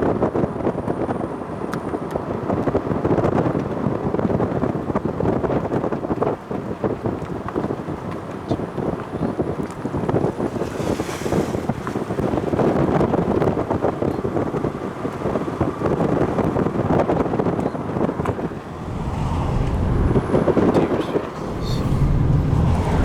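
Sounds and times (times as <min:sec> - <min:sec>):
wind buffeting microphone: 0:02.2 - 0:23.0.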